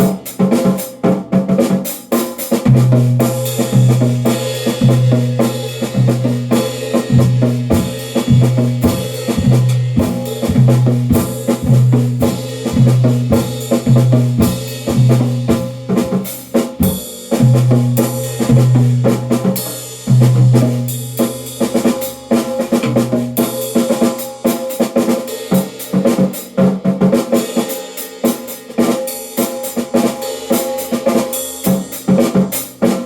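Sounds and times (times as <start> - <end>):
drum kit playing: 0.0 - 33.0.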